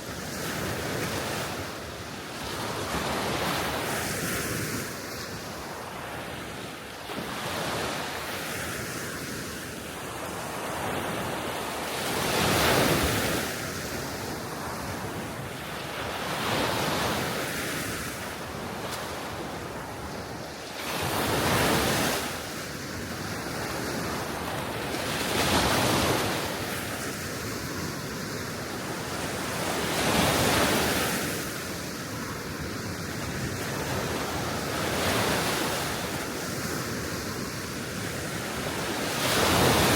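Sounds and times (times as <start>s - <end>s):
small waves breaking on shore: 0.0s - 39.9s
wind on microphone: 0.0s - 39.9s.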